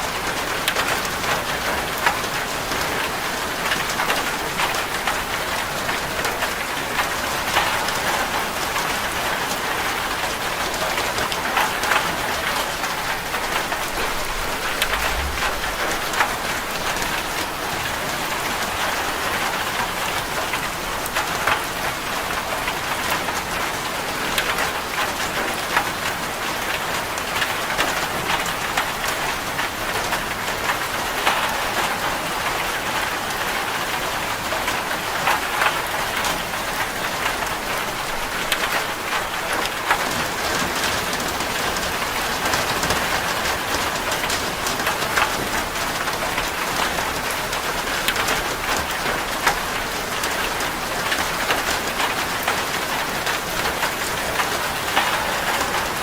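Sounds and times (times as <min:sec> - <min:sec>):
rain drumming on a metal roof: 0:00.0 - 0:56.0.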